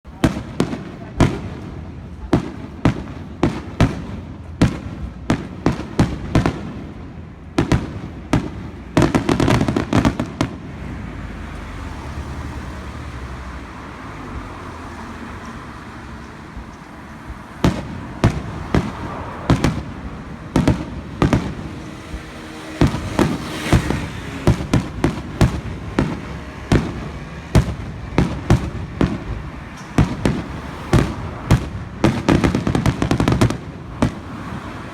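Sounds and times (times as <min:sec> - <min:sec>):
fireworks bursting with sharp bangs: 0:00.1 - 0:34.9.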